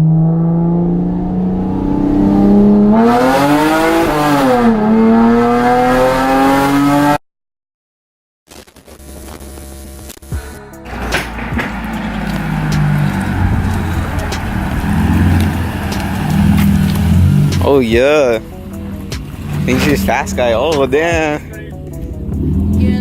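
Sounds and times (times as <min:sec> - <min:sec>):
car engine revving and idling: 0:00.0 - 0:07.2, 0:10.9 - 0:23.0.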